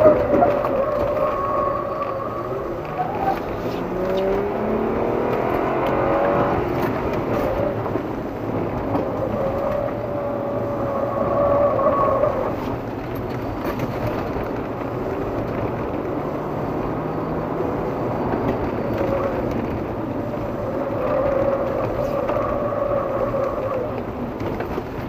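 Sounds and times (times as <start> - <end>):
car engine accelerating: 0.0 - 25.0
road and wind noise: 0.0 - 25.0.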